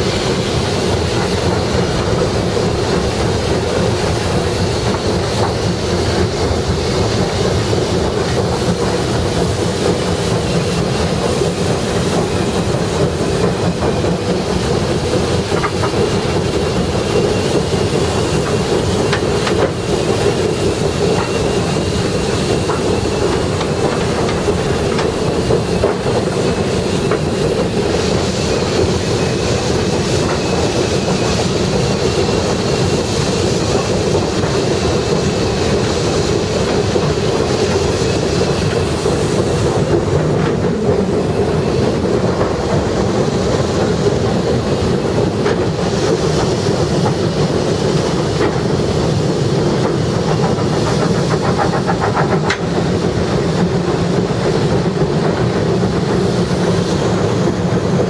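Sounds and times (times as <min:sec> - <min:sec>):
locomotive cab running noise: 0:00.0 - 0:58.0.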